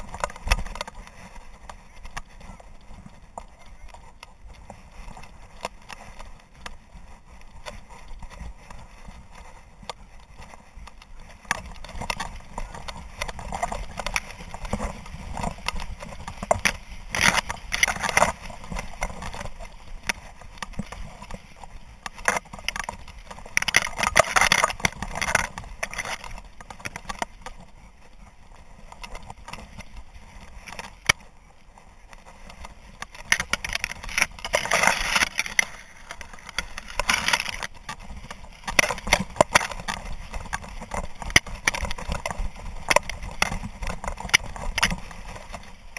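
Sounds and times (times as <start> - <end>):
dry grass swishing against camera: 0.0 - 45.9.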